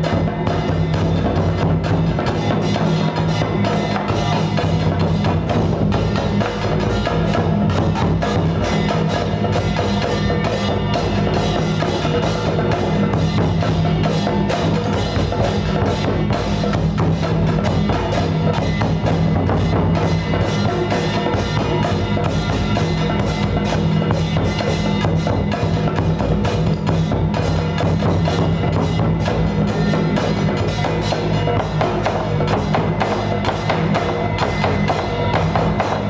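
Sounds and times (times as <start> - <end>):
percussion music: 0.0 - 36.0.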